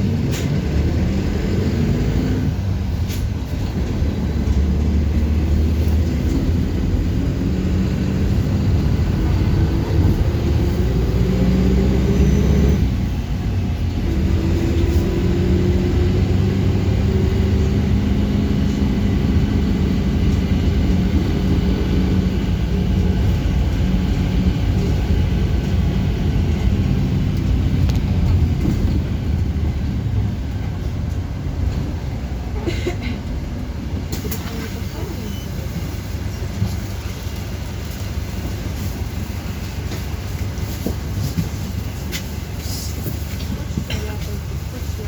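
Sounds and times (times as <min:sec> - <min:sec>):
bus engine accelerating: 0:00.0 - 0:45.0.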